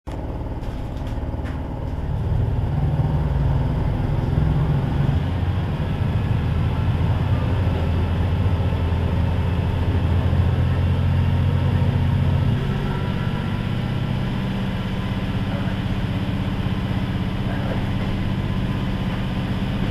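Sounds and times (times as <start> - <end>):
diesel railcar engine droning: 0.1 - 19.9.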